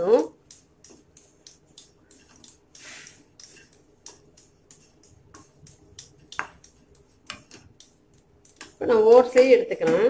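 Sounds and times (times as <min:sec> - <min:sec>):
wooden spatula scraping a pan: 0:00.0 - 0:09.6.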